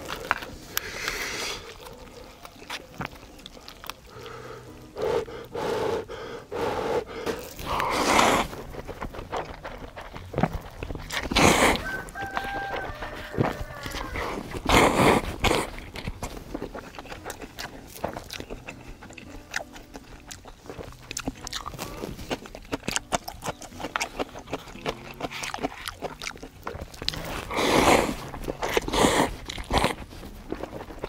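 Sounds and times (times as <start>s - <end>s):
chewing noodles: 0.0s - 31.0s
mouth clicks: 0.0s - 31.0s.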